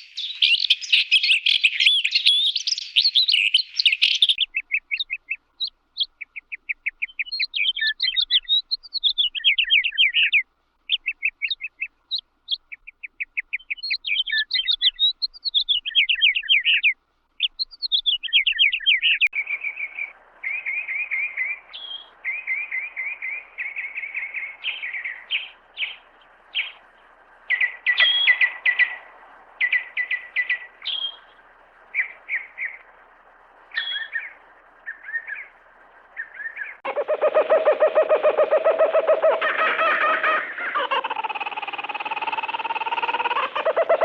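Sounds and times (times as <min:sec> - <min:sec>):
faint hiss: 0:00.0 - 0:44.0.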